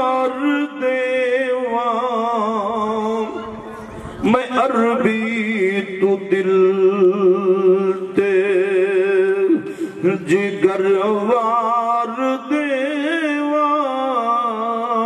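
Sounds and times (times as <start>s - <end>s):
man singing unaccompanied: 0.0s - 3.6s, 4.2s - 15.0s.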